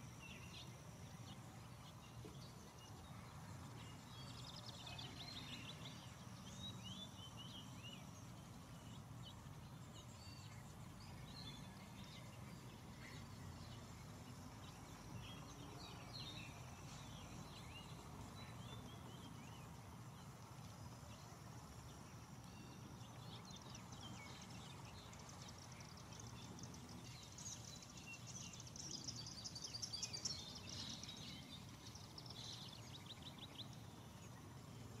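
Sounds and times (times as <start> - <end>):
low steady background noise: 0.0 - 35.0.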